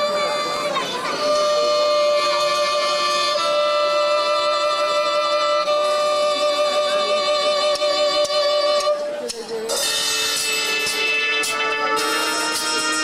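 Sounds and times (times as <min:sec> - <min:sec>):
violin playing long notes: 0:00.0 - 0:13.0.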